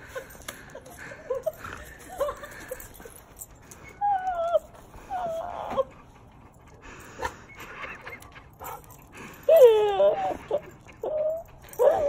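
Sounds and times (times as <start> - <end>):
dog whining: 1.3 - 12.0.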